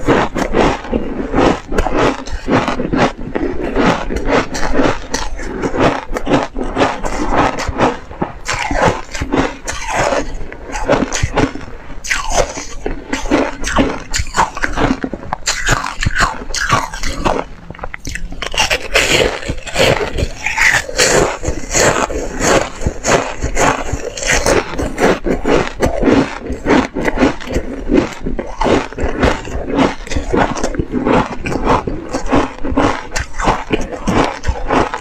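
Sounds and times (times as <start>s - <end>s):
ice being crunched: 0.0s - 17.5s, 18.1s - 35.0s.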